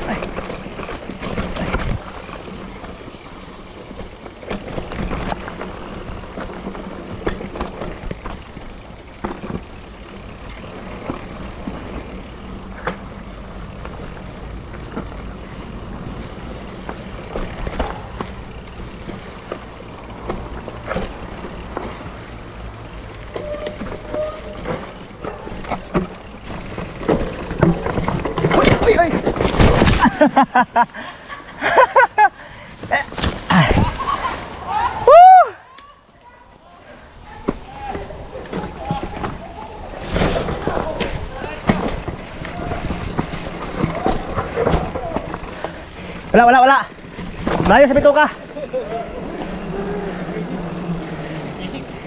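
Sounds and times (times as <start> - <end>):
bike rattling over bumps: 0.0 - 34.9, 37.3 - 52.0
bike tyres rumbling on dirt: 0.0 - 35.5, 37.2 - 52.0.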